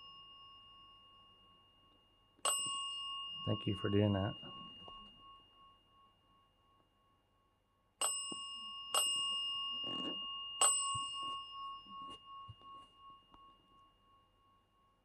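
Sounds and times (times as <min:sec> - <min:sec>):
small metal bell ringing: 0:00.0 - 0:15.0.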